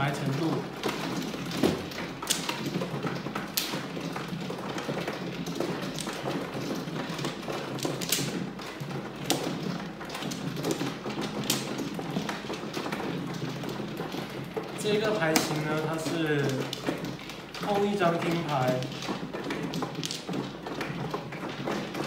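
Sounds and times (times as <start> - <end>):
mahjong tiles clicking and knocking: 0.0 - 22.0.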